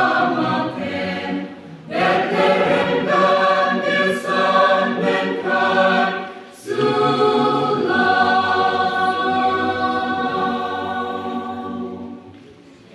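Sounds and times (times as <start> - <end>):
mixed choir singing in harmony: 0.0 - 12.4.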